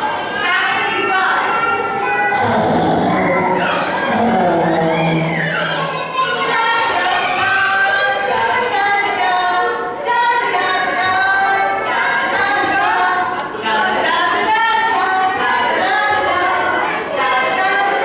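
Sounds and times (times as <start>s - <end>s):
children singing: 0.0s - 18.0s.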